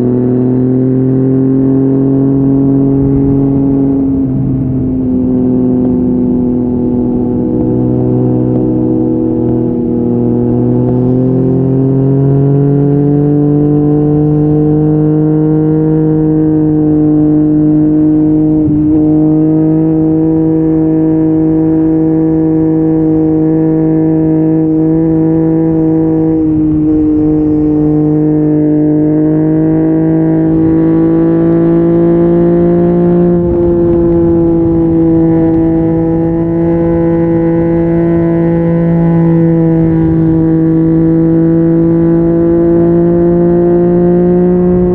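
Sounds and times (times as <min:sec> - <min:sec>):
motorcycle engine pulling away: 0:00.0 - 0:44.9.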